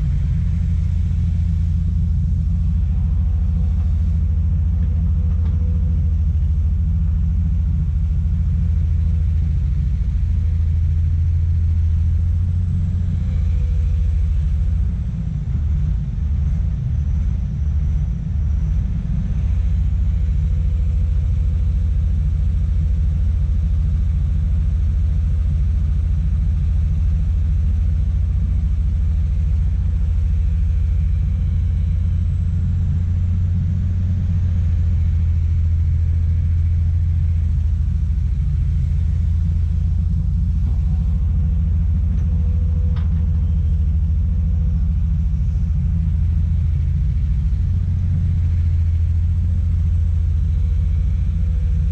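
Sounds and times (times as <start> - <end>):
excavator diesel engine rumbling: 0.0 - 51.9
faint high whine: 0.0 - 51.9.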